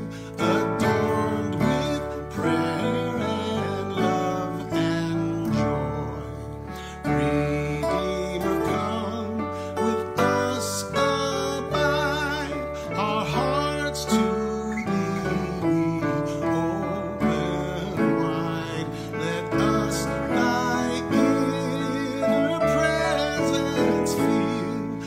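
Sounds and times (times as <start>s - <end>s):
man singing: 0.0s - 25.0s
piano-style keyboard: 0.0s - 25.0s
strummed acoustic guitar: 0.0s - 25.0s.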